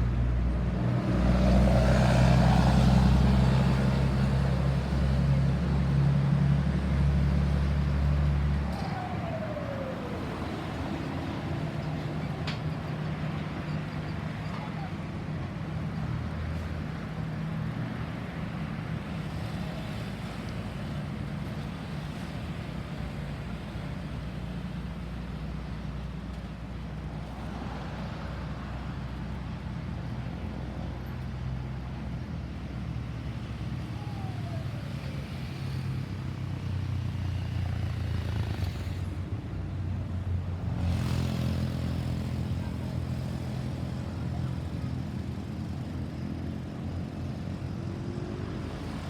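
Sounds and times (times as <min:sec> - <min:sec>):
engine running with low hum: 0:00.0 - 0:49.0
road noise: 0:00.0 - 0:49.0.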